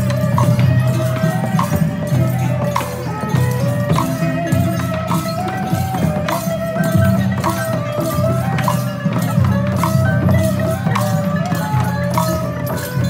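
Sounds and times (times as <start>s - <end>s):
percussion striking a beat: 0.0s - 13.0s.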